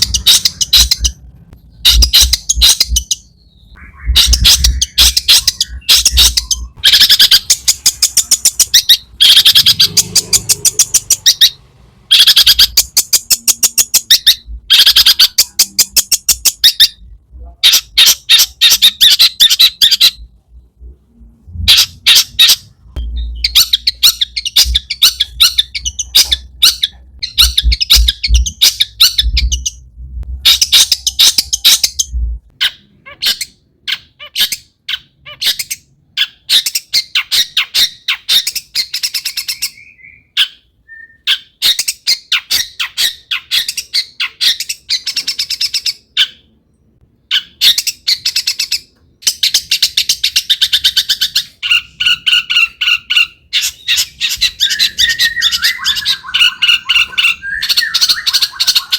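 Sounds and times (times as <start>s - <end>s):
shrike chattering song: 0.0s - 20.4s, 21.1s - 40.6s, 47.2s - 58.9s.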